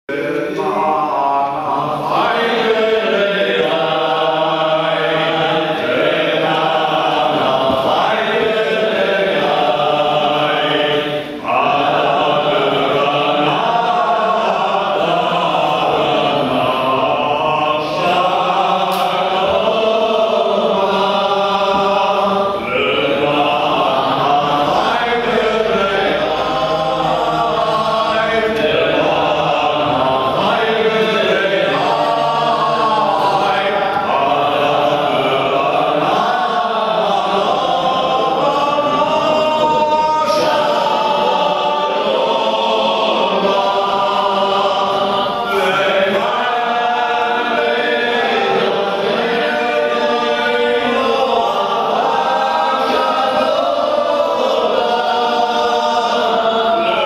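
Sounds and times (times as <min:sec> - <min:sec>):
men chanting a prayer: 0:00.0 - 0:57.0.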